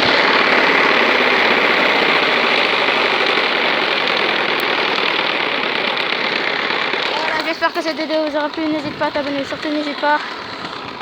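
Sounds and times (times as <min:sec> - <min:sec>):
bike spokes buzzing flutter: 0:00.0 - 0:11.0.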